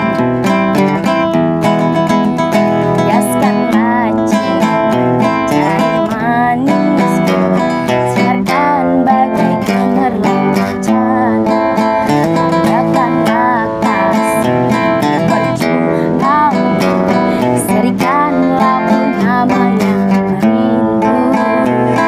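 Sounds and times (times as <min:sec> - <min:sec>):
strummed acoustic guitar: 0:00.0 - 0:22.0
woman singing a pop ballad: 0:02.4 - 0:22.0.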